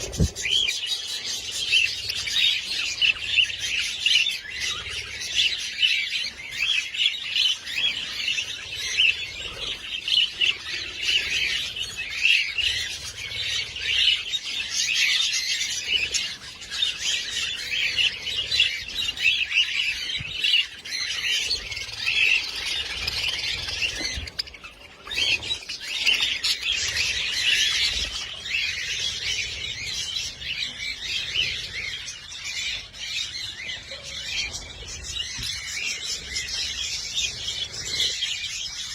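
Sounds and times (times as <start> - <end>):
parrots chirping and chattering: 0.0 - 38.9.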